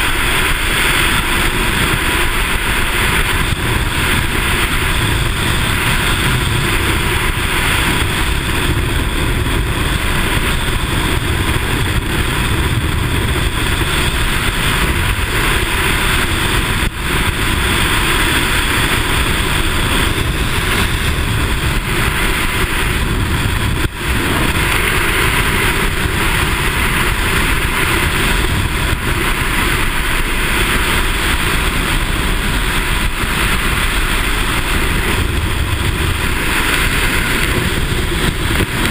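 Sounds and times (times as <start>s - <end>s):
freefall wind buffeting microphone: 0.0s - 38.9s.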